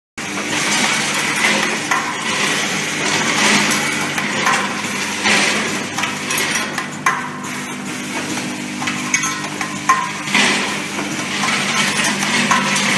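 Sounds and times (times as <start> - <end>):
steady machine hum: 0.2 - 12.9.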